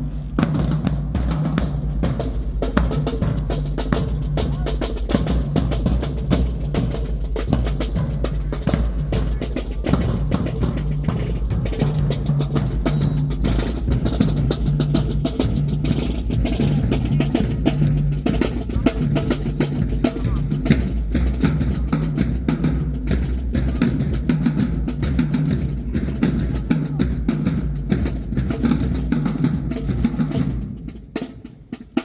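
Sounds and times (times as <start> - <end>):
drumline beating steady rhythm: 0.0 - 32.0.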